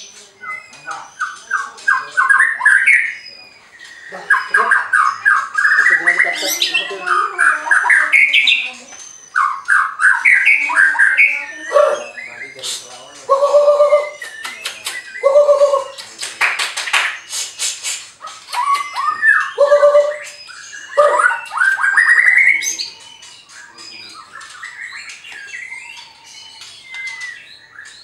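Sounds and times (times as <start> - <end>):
bird singing whistles and trills: 0.0 - 28.0
bird twittering: 0.0 - 28.0.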